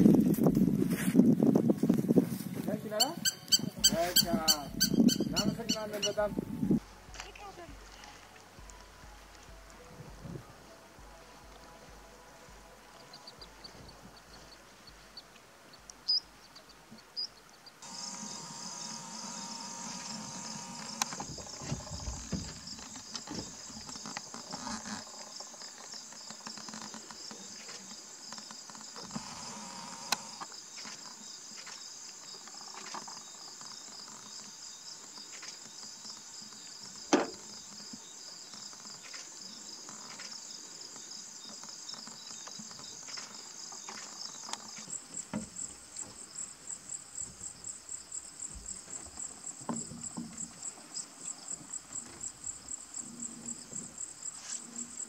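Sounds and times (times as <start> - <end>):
night insects trilling: 2.8 - 9.2, 17.2 - 55.0.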